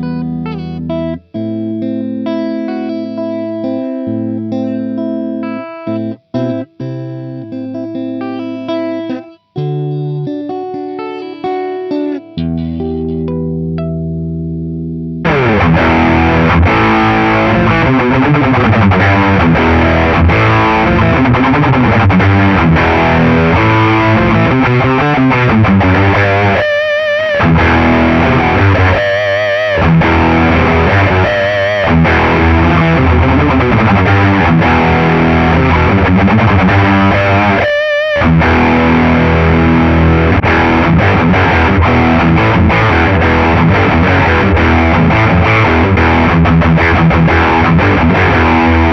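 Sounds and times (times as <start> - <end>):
distorted electric guitar: 0.0 - 14.0, 15.2 - 48.9.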